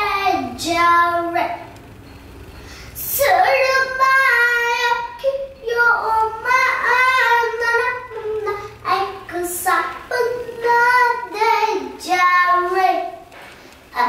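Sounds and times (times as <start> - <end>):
girl singing unaccompanied: 0.0 - 1.8, 2.8 - 13.3.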